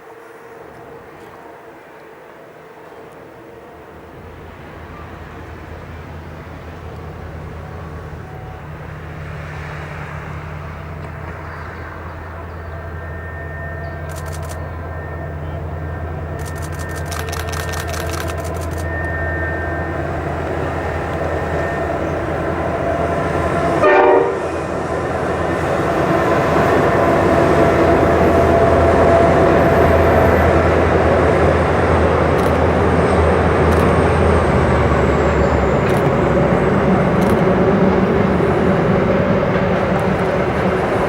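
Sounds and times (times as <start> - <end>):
train horn blast: 0.0 - 17.0, 18.8 - 41.0
locomotive engines rumbling: 0.0 - 41.0.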